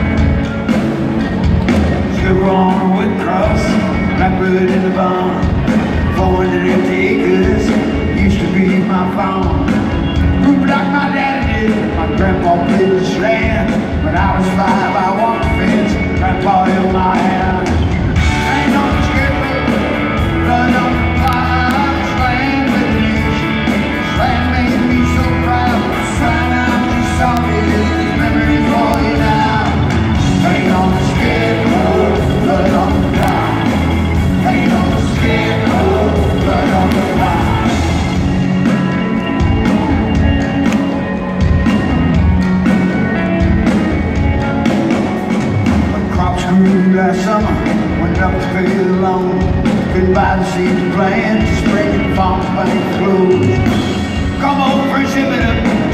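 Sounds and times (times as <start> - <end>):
live rock band through speakers: 0.0 - 55.9.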